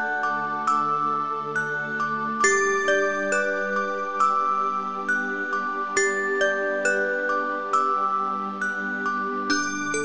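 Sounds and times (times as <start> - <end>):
gentle new-age music: 0.0 - 10.0.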